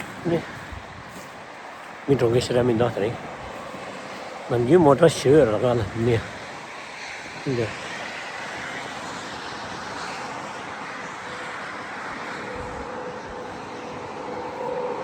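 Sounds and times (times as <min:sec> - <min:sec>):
road traffic hiss: 0:00.0 - 0:15.0.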